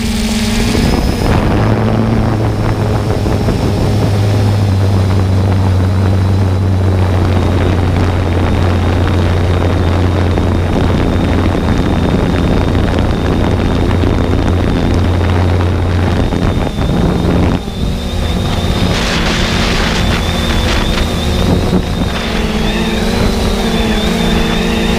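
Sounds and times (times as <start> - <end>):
drone motors humming and whining: 0.0 - 24.9
rush of air noise: 0.0 - 24.9.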